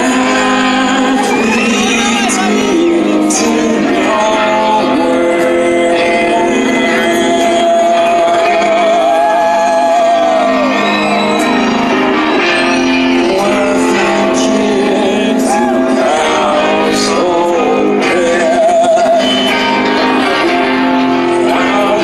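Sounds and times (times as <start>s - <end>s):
man singing: 0.0s - 10.8s, 13.1s - 22.0s
live rock band playing: 0.0s - 22.0s.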